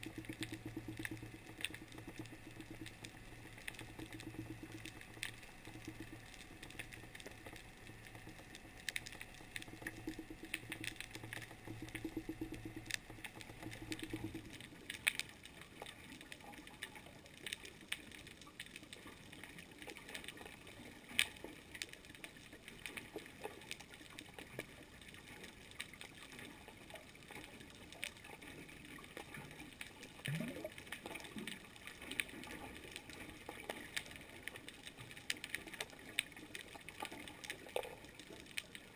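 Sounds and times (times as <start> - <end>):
crackling clicks: 0.0 - 38.9
underwater water noise: 0.0 - 38.9.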